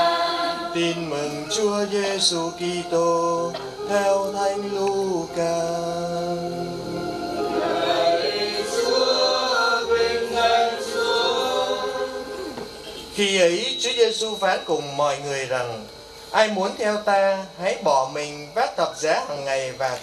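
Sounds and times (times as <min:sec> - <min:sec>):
voices singing slow chant: 0:00.0 - 0:16.4.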